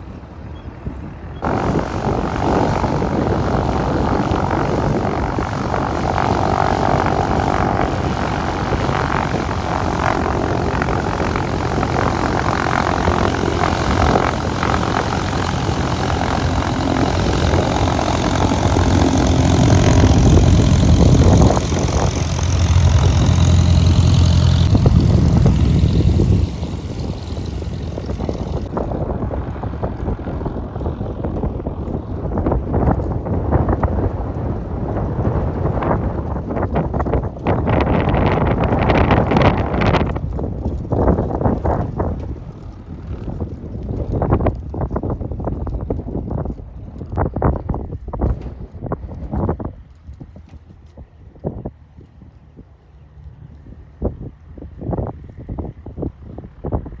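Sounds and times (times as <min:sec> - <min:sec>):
propeller airplane engine drone: 0:00.0 - 0:47.2.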